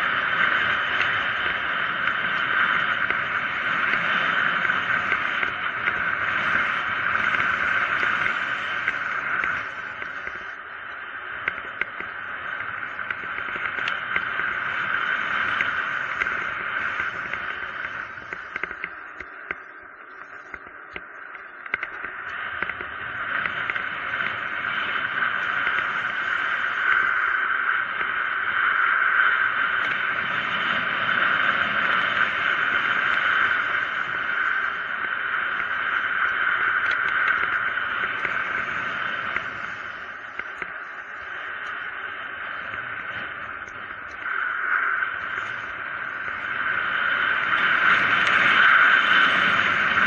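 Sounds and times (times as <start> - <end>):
bike tyre noise on road: 0.0 - 50.0
rushing wind: 0.0 - 50.0
small clicks and rattles: 0.5 - 10.6, 11.3 - 46.5.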